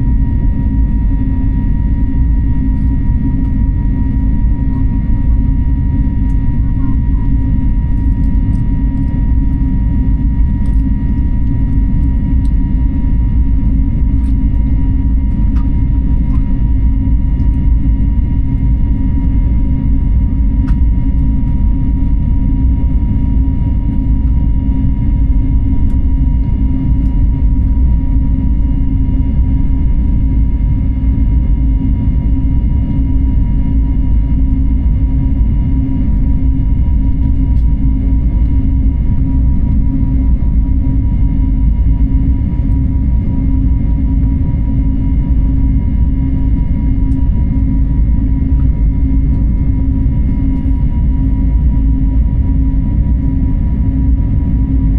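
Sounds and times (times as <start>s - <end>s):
airliner cabin rumble: 0.0s - 54.9s
faint steady whine: 0.0s - 54.9s.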